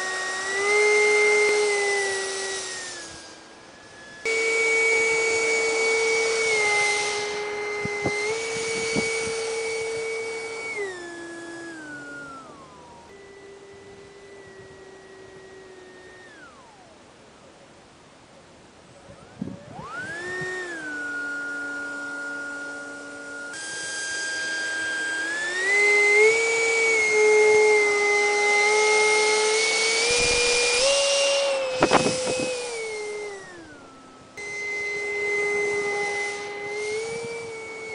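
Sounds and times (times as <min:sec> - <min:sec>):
jet engine whine: 0:00.0 - 0:37.9.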